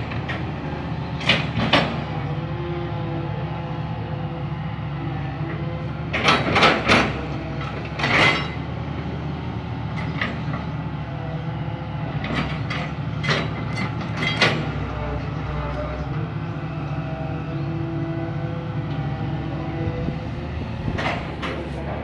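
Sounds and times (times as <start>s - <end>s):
excavator running: 0.0s - 22.0s.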